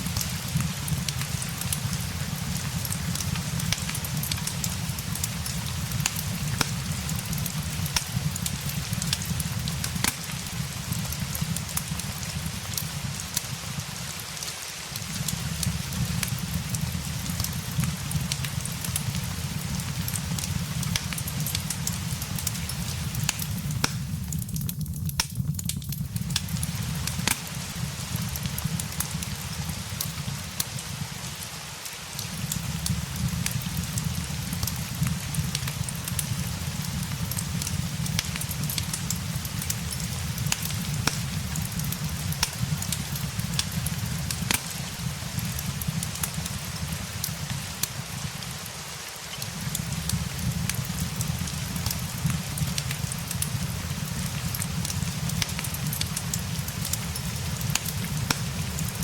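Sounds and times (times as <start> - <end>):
fireplace crackling and popping: 0.0 - 59.0
steady rain hiss: 0.0 - 59.0.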